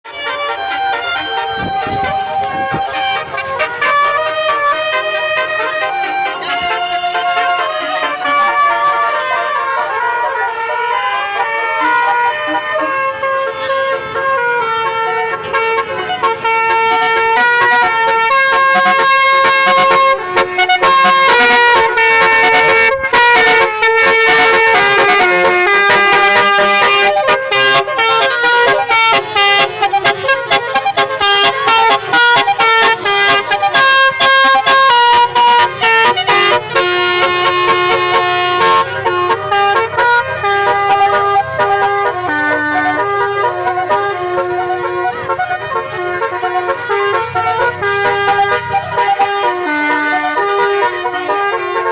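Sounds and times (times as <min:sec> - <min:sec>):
bus musical horn playing a tune: 0:00.0 - 0:51.9.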